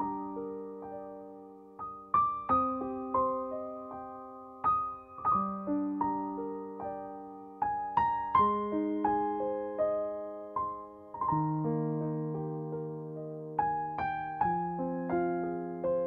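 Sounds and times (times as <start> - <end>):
gentle slow piano piece: 0.0 - 16.0.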